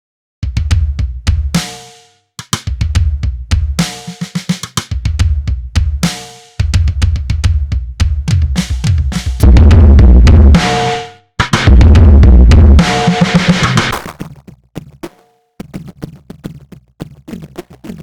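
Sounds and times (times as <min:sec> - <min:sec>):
distorted drum loop: 0:00.4 - 0:18.0.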